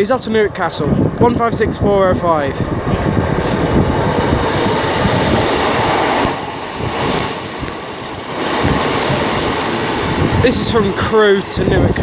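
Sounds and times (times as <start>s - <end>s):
train engine and wheels rumbling: 0.0s - 12.0s.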